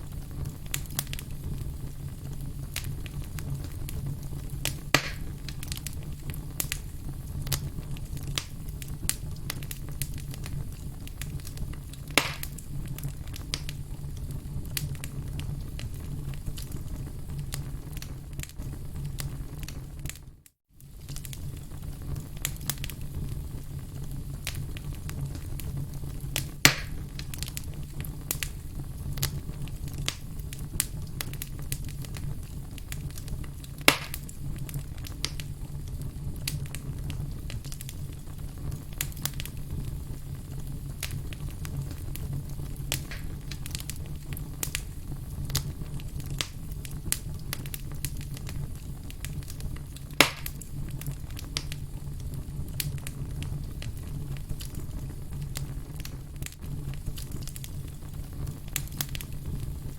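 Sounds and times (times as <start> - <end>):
campfire crackling: 0.0 - 59.9
fire popping: 0.0 - 59.9.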